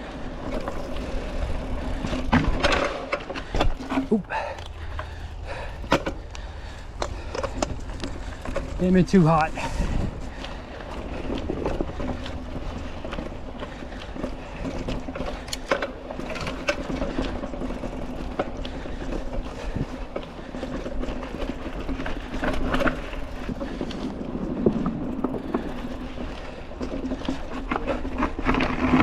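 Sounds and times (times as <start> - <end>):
bike knocking and rattling: 0.0 - 29.0
bike tyres rolling on dirt trail: 0.0 - 29.0.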